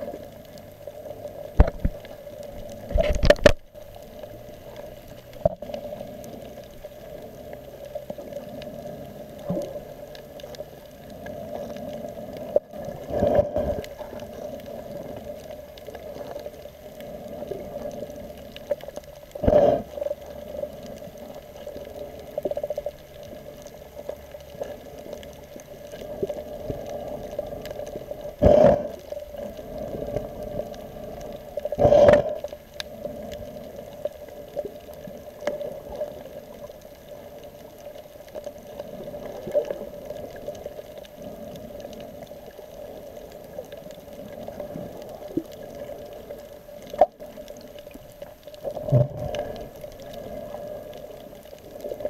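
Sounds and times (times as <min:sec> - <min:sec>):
muffled underwater drone: 0:00.0 - 0:52.0
rushes of water: 0:00.0 - 0:52.0.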